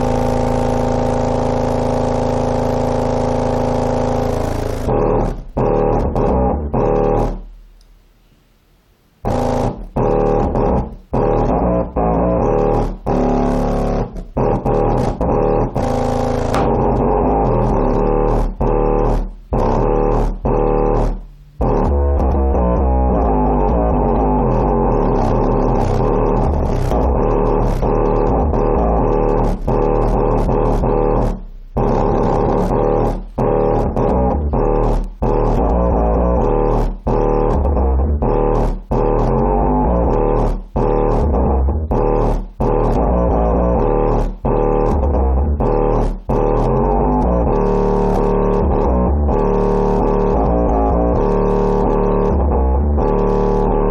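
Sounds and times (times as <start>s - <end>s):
loud bass-heavy music from subwoofer: 0.0s - 7.8s, 9.2s - 53.9s.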